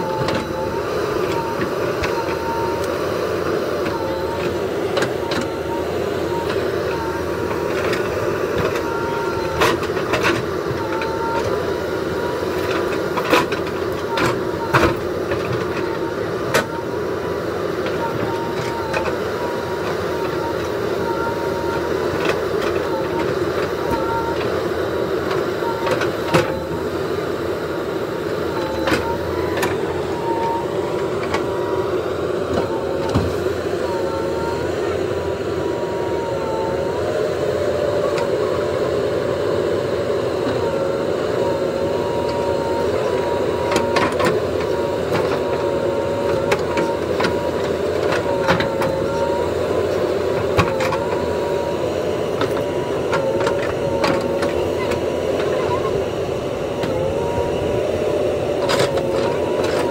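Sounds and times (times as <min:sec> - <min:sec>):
diesel engine running under load: 0:00.0 - 0:59.9
hydraulic whine: 0:00.0 - 0:59.9.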